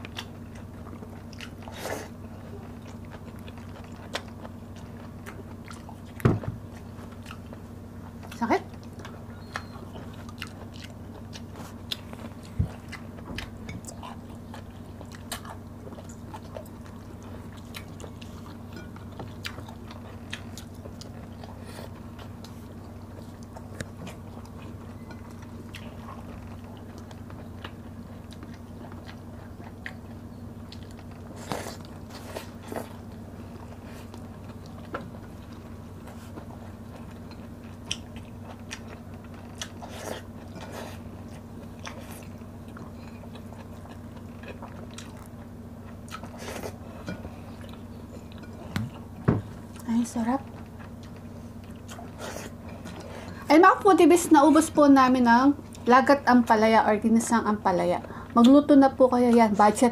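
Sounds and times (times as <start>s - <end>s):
chewing and mouth smacks: 0.0s - 49.9s, 50.5s - 53.5s
food crunching: 0.0s - 53.5s
steady low hum: 0.0s - 59.9s.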